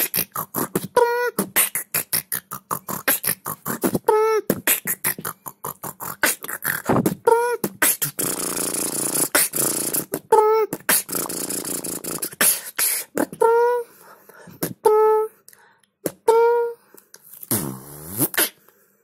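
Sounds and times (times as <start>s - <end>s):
beatboxing: 0.0s - 15.3s, 16.0s - 18.7s
pitched vocal riff: 0.0s - 18.6s.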